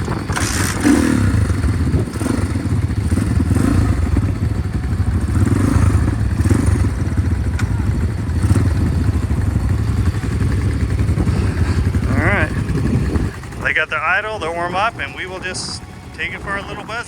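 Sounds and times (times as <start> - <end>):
pit bike engines idling: 0.0 - 17.0.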